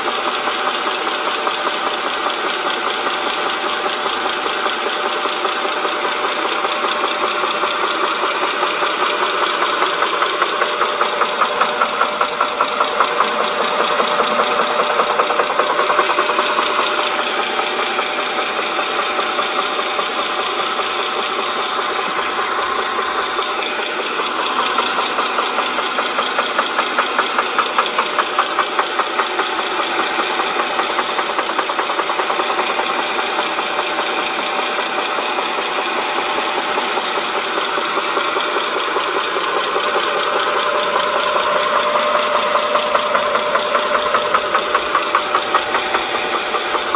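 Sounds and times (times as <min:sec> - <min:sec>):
car engine running: 0:00.0 - 0:46.9
timing chain knocking rattle: 0:00.0 - 0:46.9.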